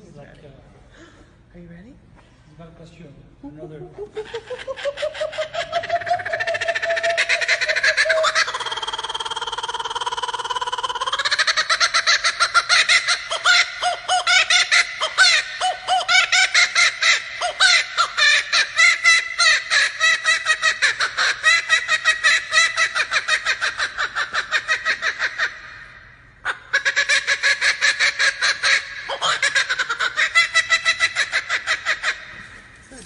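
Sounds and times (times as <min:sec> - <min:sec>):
kookaburra laughing call: 0:03.6 - 0:33.0.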